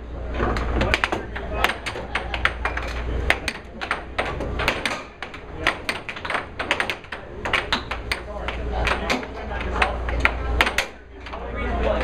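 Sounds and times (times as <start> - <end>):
air hockey puck clacking: 0.4 - 11.4.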